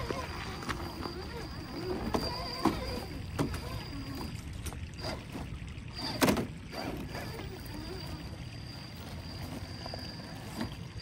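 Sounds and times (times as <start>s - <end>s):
rc car motor whirring: 0.0s - 11.0s.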